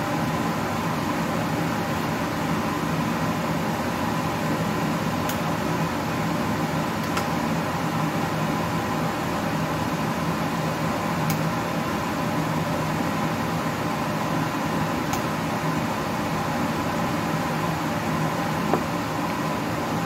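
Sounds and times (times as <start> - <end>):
appliance fan whirring hum: 0.0 - 20.0.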